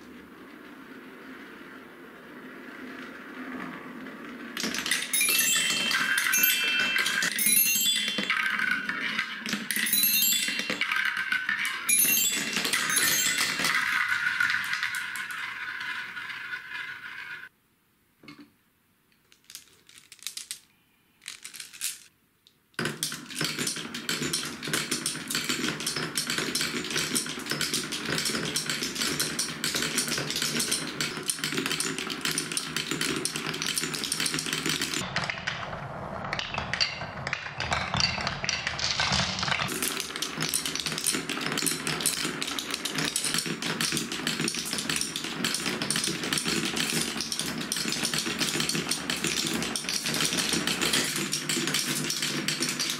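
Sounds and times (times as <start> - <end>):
marbles whirring round plastic bowl: 0.2 - 17.6, 21.2 - 22.1, 22.8 - 52.9
marbles clattering down wooden tracks: 2.9 - 17.5, 19.3 - 22.1, 22.8 - 52.9.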